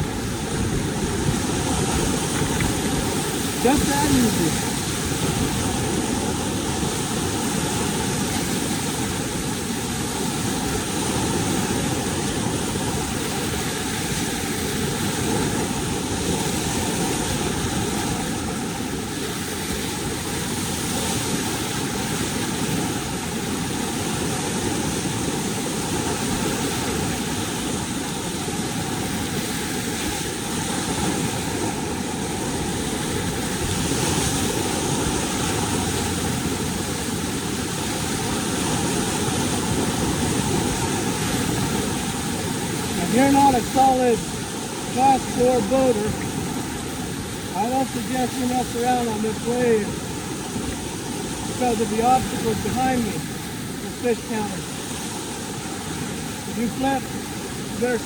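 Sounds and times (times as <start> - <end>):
whitewater rushing: 0.0 - 58.0.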